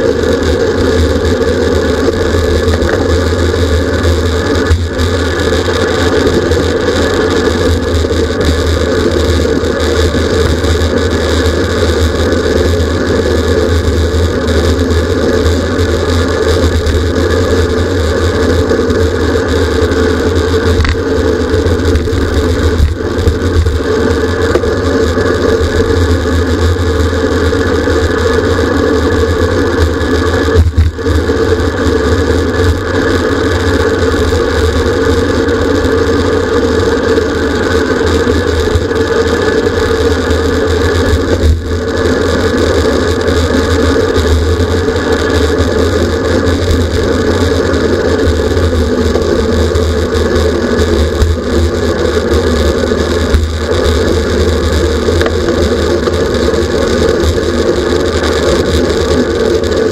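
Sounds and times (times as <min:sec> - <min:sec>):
faint steady hum: 0:00.0 - 0:59.9
wind and road rumble: 0:00.0 - 0:59.9.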